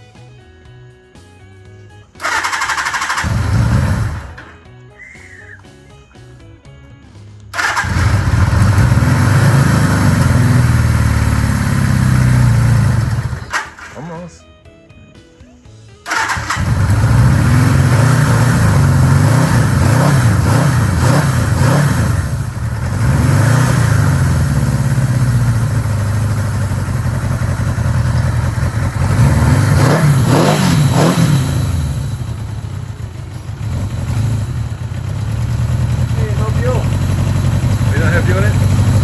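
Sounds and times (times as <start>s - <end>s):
motorcycle engine starting and revving: 2.2s - 4.7s, 7.5s - 14.1s, 16.1s - 39.0s.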